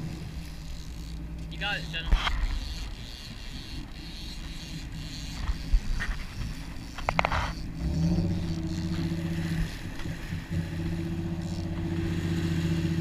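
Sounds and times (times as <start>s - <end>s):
boat engine running: 0.0s - 13.0s
water noise: 0.0s - 13.0s
wind: 0.0s - 13.0s.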